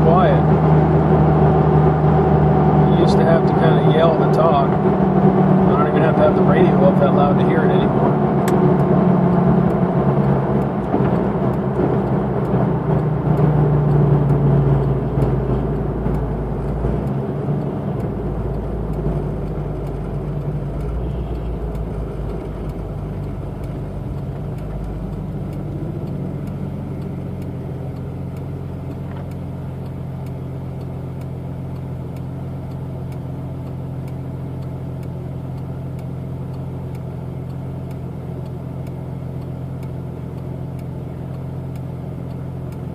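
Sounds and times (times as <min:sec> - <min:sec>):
car engine exhaust drone: 0:00.0 - 0:42.9.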